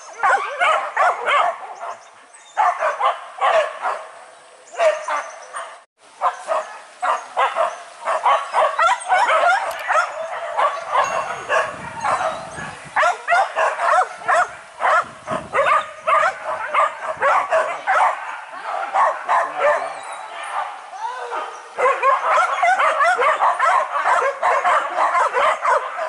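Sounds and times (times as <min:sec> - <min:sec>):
dogs barking and yelping: 0:00.0 - 0:26.0.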